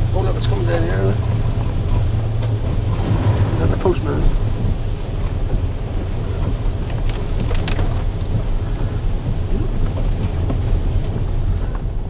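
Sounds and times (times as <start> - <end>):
car engine and tyres rumbling: 0.0 - 12.0
rain and water hissing: 0.0 - 12.0.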